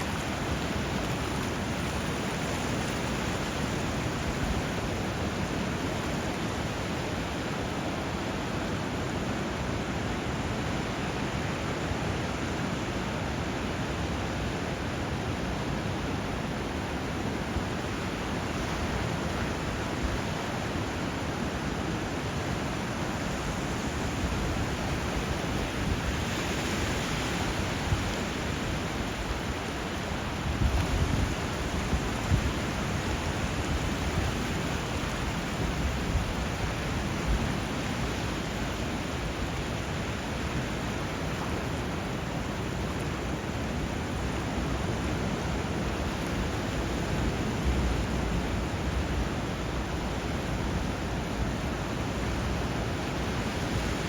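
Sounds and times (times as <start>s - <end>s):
rushing water: 0.0s - 54.0s
water surges: 0.0s - 54.0s.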